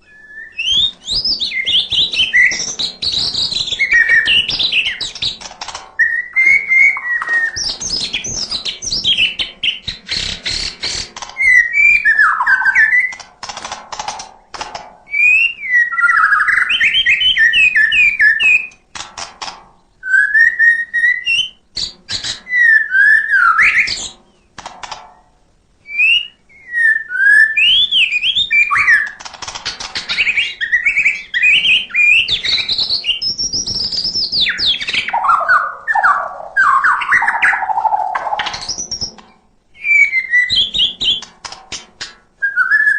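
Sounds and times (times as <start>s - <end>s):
bird whistling song: 0.0s - 13.2s, 15.1s - 18.8s, 19.9s - 24.5s, 25.8s - 29.3s, 30.0s - 41.3s, 42.4s - 42.9s
bird sharp clicks: 0.6s - 22.7s, 23.4s - 25.3s, 27.6s - 42.9s.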